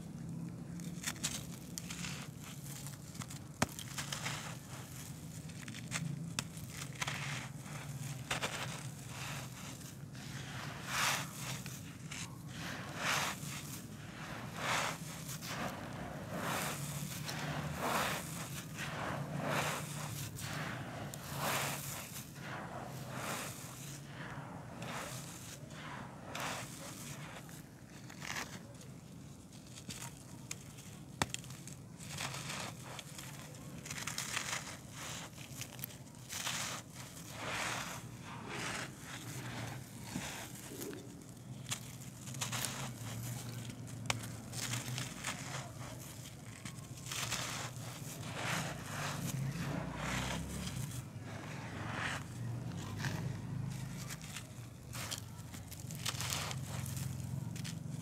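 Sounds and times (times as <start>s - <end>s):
hands crumbling gravelly soil: 0.0s - 58.0s
dry earth crunching: 0.2s - 58.0s.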